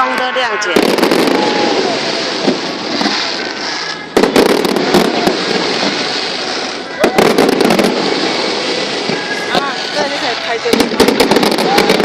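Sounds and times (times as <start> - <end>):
fireworks crackling: 0.0 - 12.0
loud firework burst: 0.0 - 12.0.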